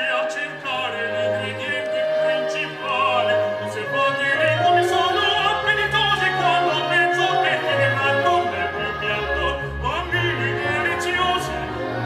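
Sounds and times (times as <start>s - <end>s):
operatic singing with vibrato: 0.0s - 12.0s
orchestra: 0.0s - 12.0s.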